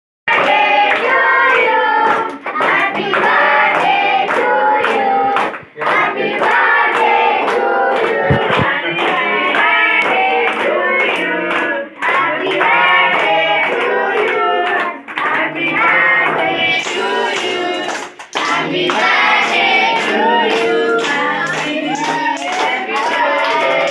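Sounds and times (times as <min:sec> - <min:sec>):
children and adults singing: 0:00.3 - 0:23.9
rhythmic hand clapping: 0:00.3 - 0:23.9.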